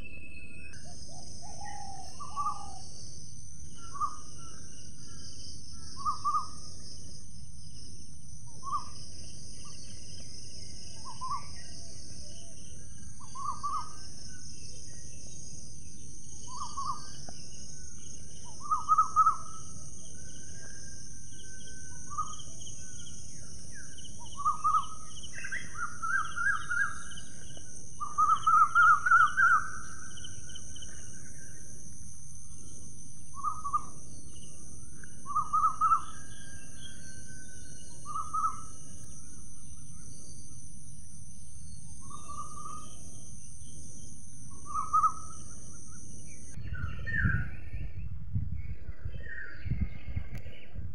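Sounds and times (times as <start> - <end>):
birds calling: 0.0 - 6.9, 8.5 - 31.8, 32.5 - 41.1, 41.7 - 47.9.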